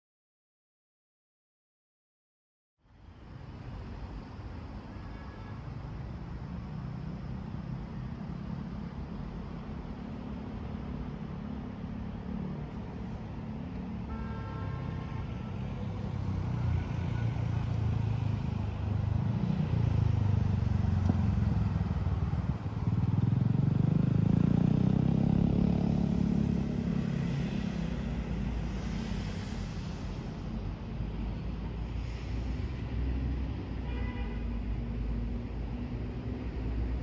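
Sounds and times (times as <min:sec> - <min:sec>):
vehicles passing: 0:02.8 - 0:37.0.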